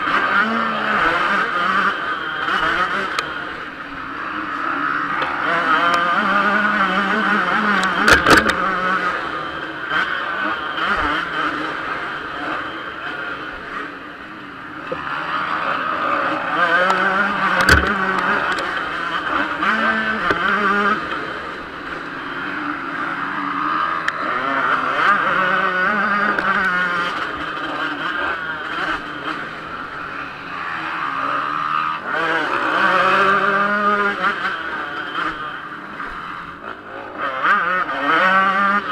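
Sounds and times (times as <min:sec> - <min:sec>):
two-stroke engine revving hard: 0:00.0 - 0:38.9.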